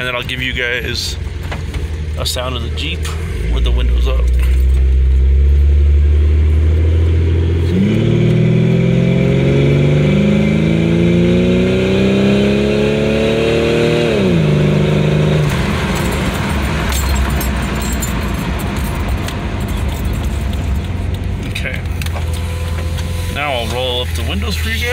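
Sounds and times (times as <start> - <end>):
car engine accelerating: 0.0 - 24.9
road and wind noise: 0.0 - 24.9.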